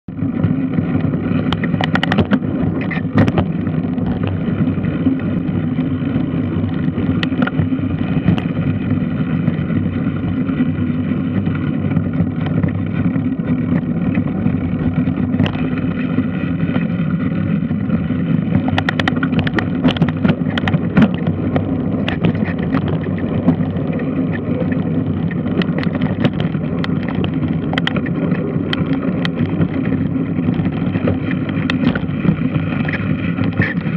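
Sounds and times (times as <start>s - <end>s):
sharp clicks and knocks: 0.4s - 9.0s, 11.3s - 16.2s, 17.9s - 33.9s.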